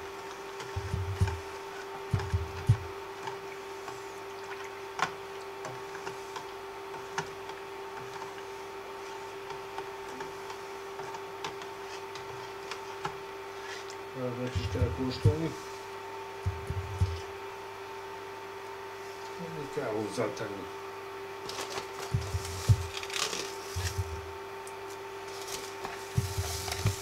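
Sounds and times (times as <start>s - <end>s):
induction cooker hum: 0.0s - 27.0s.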